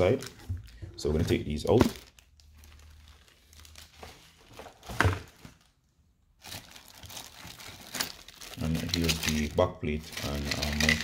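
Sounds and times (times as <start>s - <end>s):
plastic bags crinkling: 0.0s - 5.8s, 6.4s - 11.0s.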